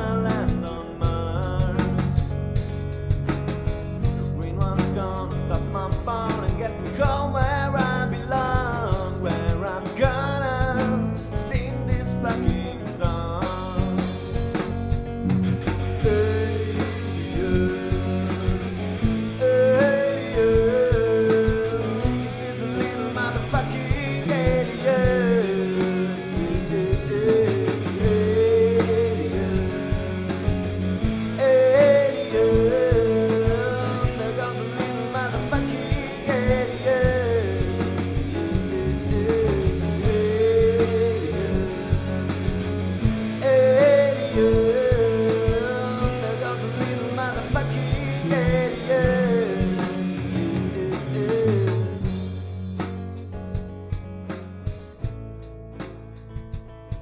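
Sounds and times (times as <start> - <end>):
person singing: 0.0 - 2.5, 4.0 - 14.8, 15.9 - 52.4
space rock song: 0.0 - 57.0.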